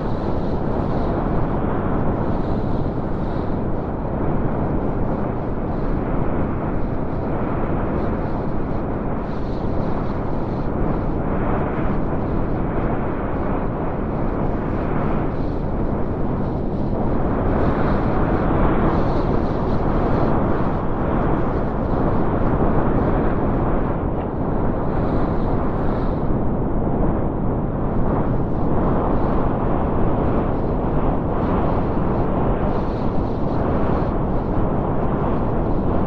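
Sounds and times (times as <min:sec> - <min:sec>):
heavy storm wind gusting: 0:00.0 - 0:36.0.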